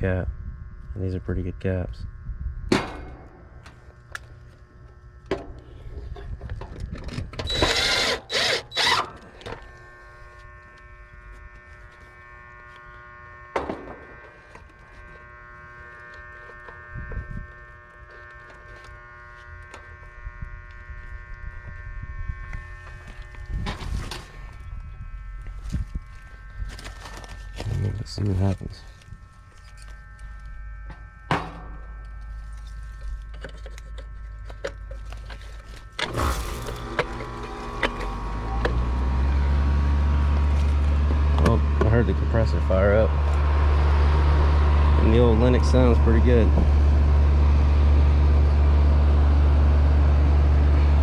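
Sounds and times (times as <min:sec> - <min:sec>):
steady electrical hum: 0:00.0 - 0:51.0
whirring and rattling bursts: 0:03.0 - 0:48.4.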